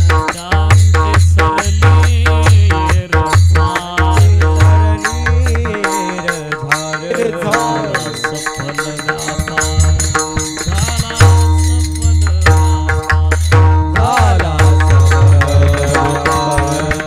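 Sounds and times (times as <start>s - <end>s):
drumming and percussion: 0.0s - 17.0s
held instrumental tones: 0.0s - 17.0s
person singing: 0.2s - 17.0s.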